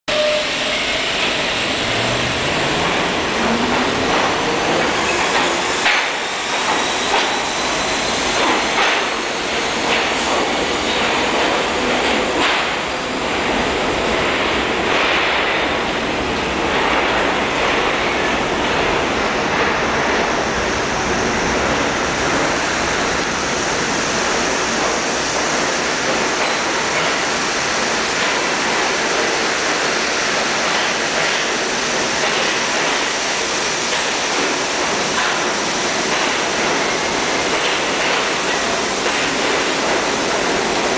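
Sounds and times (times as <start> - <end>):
subway train rumble: 0.0 - 40.9
rail hiss: 0.1 - 40.9.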